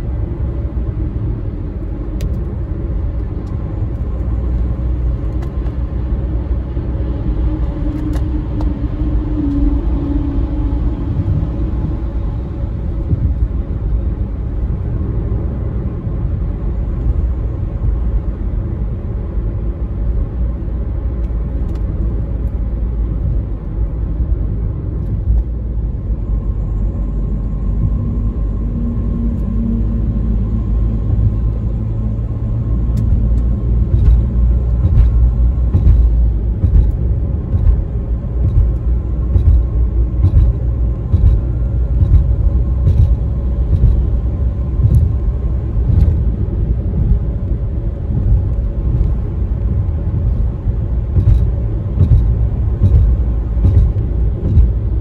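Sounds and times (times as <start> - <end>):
road and engine noise in car: 0.0 - 55.0.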